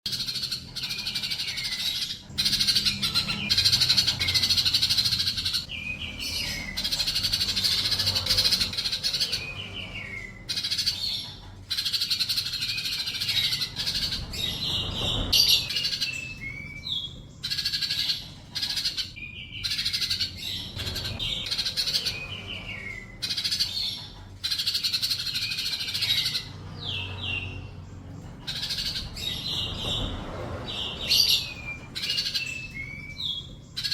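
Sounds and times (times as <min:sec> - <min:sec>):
bird singing fast chattering phrases: 0:00.1 - 0:33.9.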